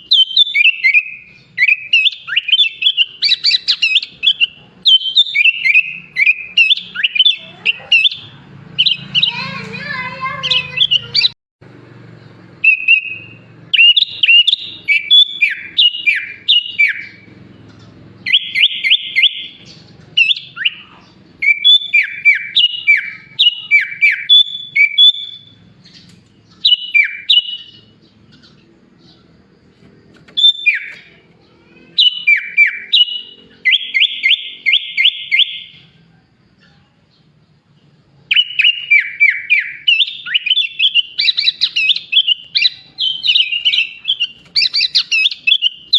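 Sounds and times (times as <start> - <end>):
bird singing whistled notes: 0.0 - 11.4, 12.5 - 36.0, 36.6 - 45.9.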